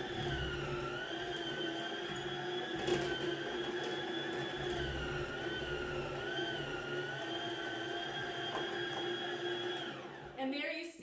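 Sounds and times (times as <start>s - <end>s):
food processor motor whining: 0.0s - 10.4s.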